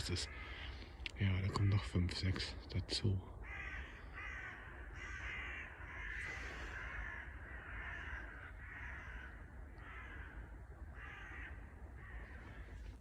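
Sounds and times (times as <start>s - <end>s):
crows cawing: 0.0s - 1.9s, 3.3s - 13.0s.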